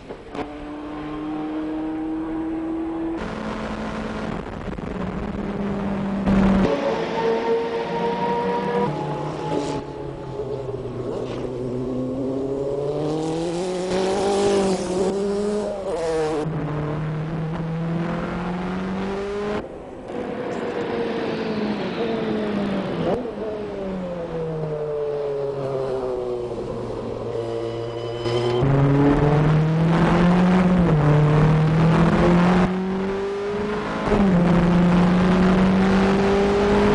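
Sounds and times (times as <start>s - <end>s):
race car engine revving: 0.3s - 27.2s, 28.5s - 36.9s.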